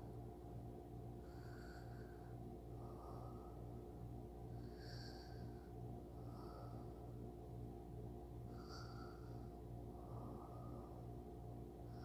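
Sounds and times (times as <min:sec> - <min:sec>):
person breathing softly: 0:00.0 - 0:12.0
steady low hum: 0:00.0 - 0:12.0.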